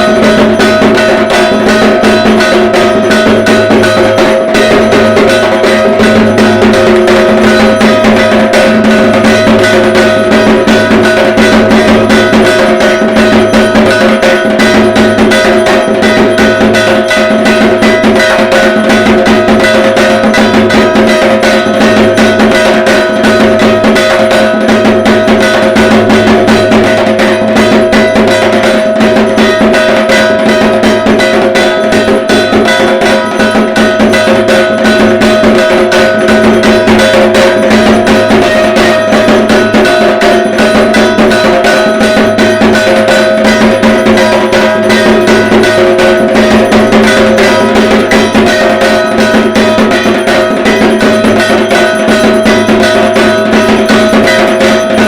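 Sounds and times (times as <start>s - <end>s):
drums beaten in fast rhythm: 0.0s - 55.0s
ringing metal percussion: 0.0s - 55.0s.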